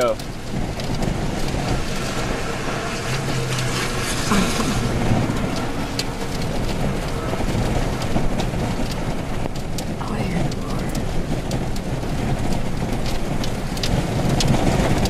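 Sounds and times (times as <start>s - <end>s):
rain: 0.0s - 15.0s
wind buffeting microphone: 0.0s - 15.0s.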